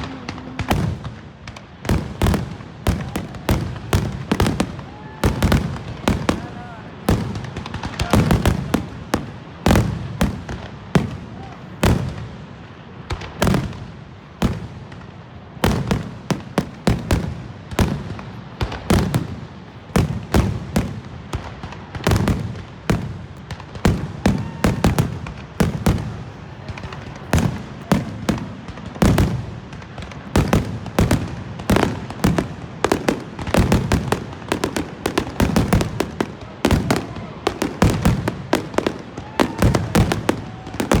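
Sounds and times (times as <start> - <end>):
fireworks bangs and booms: 0.0 - 41.0.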